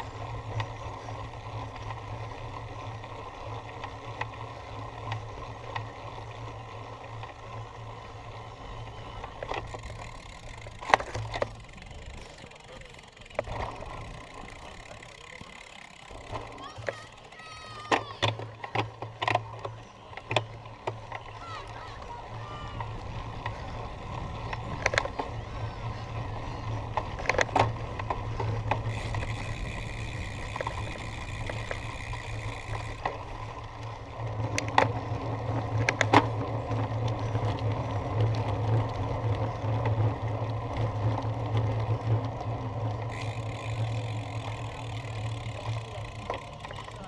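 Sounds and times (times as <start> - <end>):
bike clicks and knocks: 0.0 - 2.0, 9.1 - 22.0, 22.7 - 25.5, 26.7 - 47.0
bicycle rumbling: 0.0 - 47.0.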